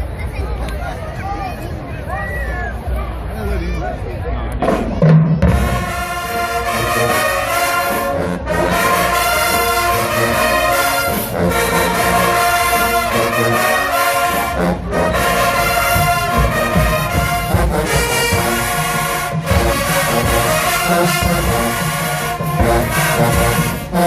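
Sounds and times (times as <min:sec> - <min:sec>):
marching band brass playing: 0:04.6 - 0:24.0.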